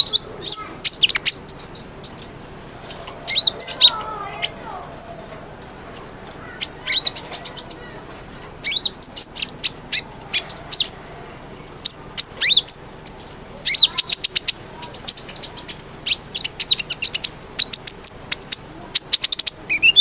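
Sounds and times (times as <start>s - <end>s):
sunbird singing high chirps: 0.0s - 20.0s.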